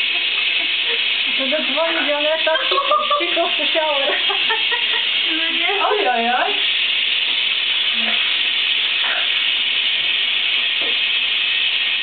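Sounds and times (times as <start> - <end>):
shower spray hissing: 0.0 - 12.0.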